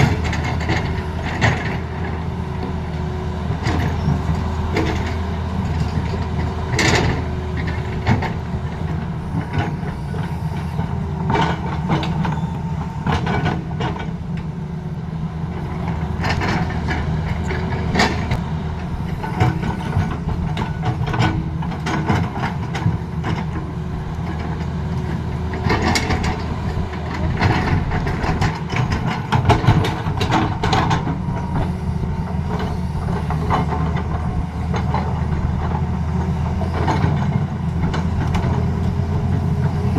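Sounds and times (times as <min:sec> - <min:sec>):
machine clanks and scrapes: 0:00.0 - 0:02.8, 0:03.5 - 0:14.6, 0:15.5 - 0:39.9
excavator diesel engine running: 0:00.0 - 0:39.9.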